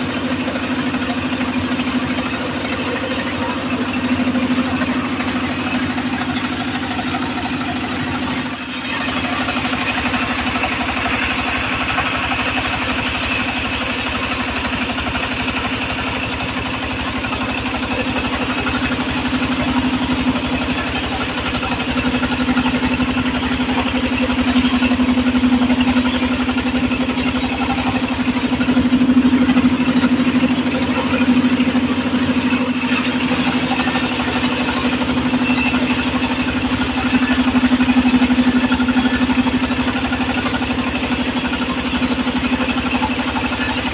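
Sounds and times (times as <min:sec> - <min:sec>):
engine-driven sawmill running: 0:00.0 - 0:43.9.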